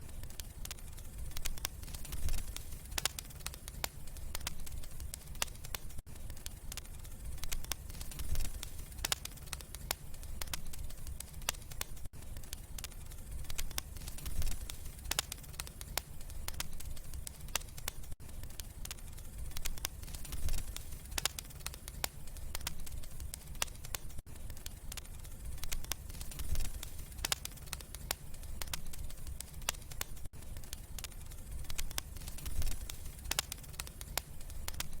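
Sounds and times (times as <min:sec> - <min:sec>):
fire crackling and popping: 0:00.0 - 0:35.0
low rumble of flame: 0:00.0 - 0:35.0.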